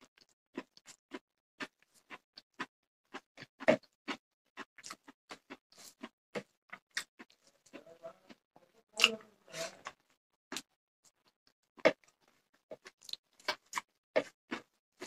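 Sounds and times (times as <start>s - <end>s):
person chewing: 0.0s - 8.4s, 9.0s - 15.0s.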